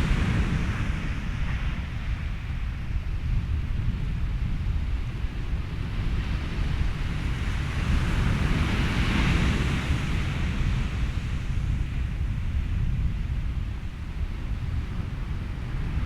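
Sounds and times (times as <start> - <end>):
wind: 0.0 - 16.0.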